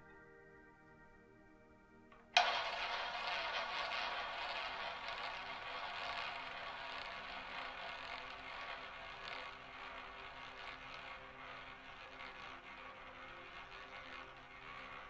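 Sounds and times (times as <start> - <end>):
roulette ball whirring: 2.2 - 15.0.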